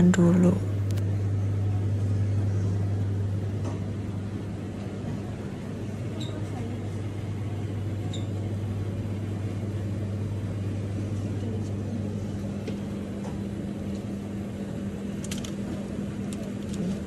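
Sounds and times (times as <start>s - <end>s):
refrigerated display case hum: 0.0s - 17.0s.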